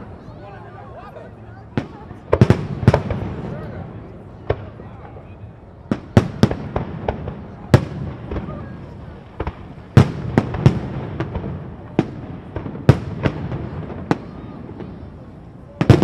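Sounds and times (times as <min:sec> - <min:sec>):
fireworks bursting with sharp bangs: 0:01.6 - 0:16.0.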